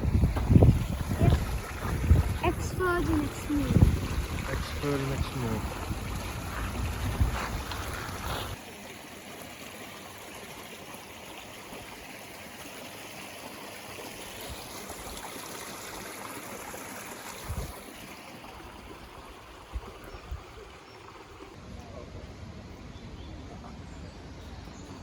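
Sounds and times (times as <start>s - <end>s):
small stream running: 0.0s - 25.0s.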